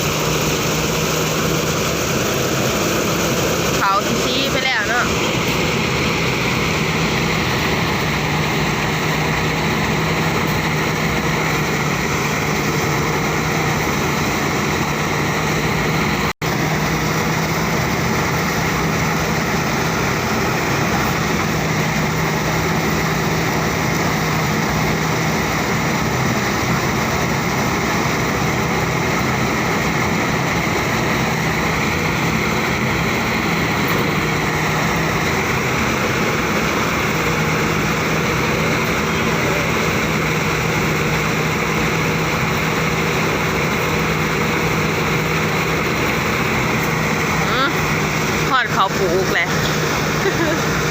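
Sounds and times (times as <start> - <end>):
threshing machine running: 0.0 - 50.9.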